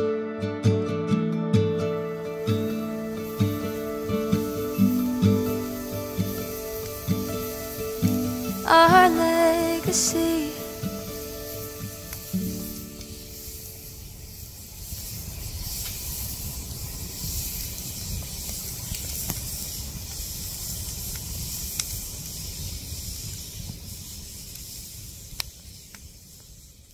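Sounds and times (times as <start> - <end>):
fire crackling: 1.6 - 26.9
fire hissing and rumbling: 1.9 - 26.9.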